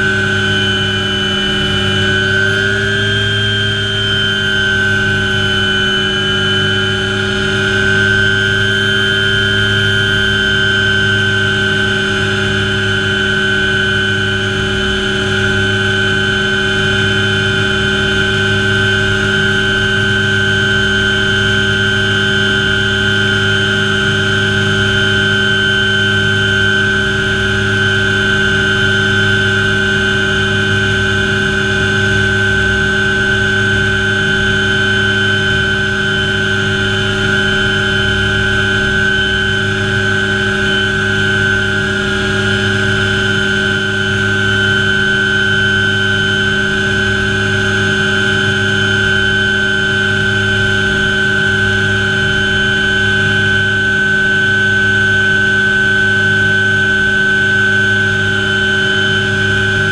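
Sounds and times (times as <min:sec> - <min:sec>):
helicopter rotor drone: 0:00.0 - 0:59.9
helicopter turbine whine: 0:00.0 - 0:59.9.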